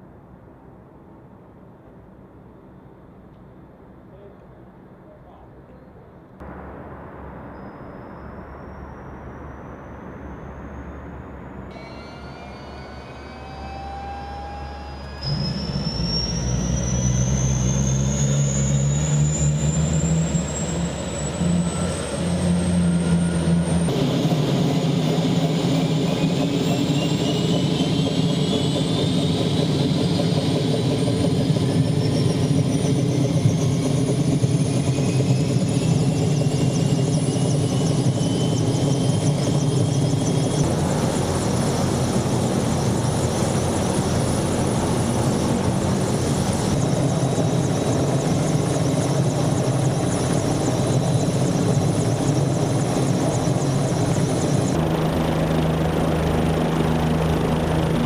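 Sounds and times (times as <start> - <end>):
helicopter engine whining: 6.4 - 58.0.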